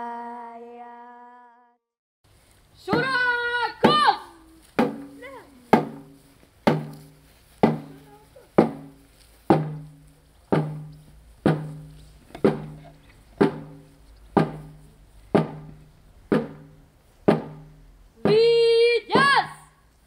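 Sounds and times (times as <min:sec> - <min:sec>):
drum struck in slow beat: 0:02.9 - 0:19.4.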